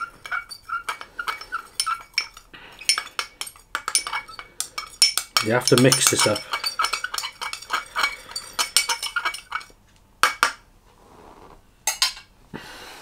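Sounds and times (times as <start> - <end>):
utensil clinking against glass: 0.0 - 10.5.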